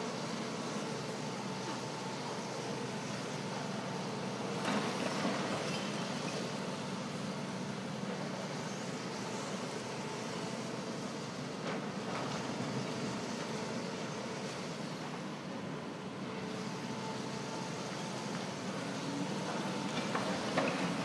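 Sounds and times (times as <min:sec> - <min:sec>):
excavator diesel engines running: 0:00.0 - 0:21.0.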